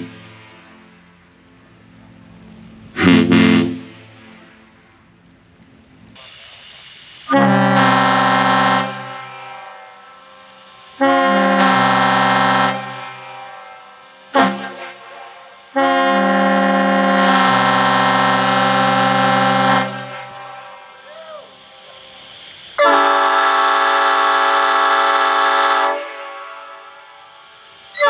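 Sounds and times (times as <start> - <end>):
locomotive air horn blasts: 0.0 - 1.0, 3.0 - 4.7, 7.3 - 21.8, 22.8 - 28.0.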